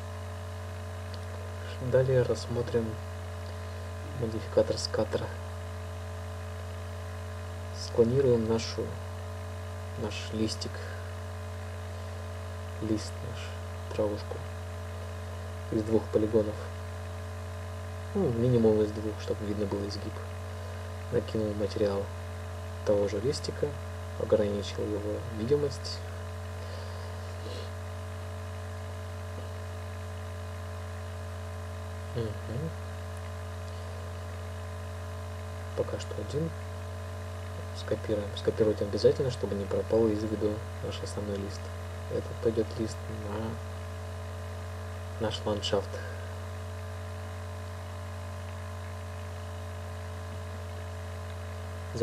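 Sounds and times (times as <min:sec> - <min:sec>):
electrical hum and hiss: 0:00.0 - 0:52.0.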